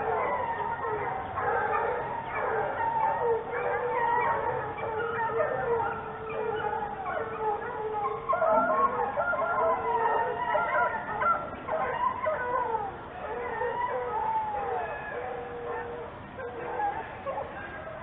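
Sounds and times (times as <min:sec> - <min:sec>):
hounds baying and howling: 0:00.0 - 0:18.0.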